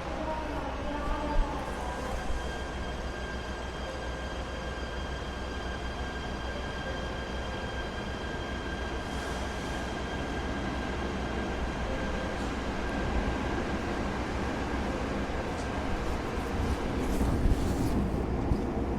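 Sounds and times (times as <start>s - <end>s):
train carriage low rumble: 0.0s - 18.9s.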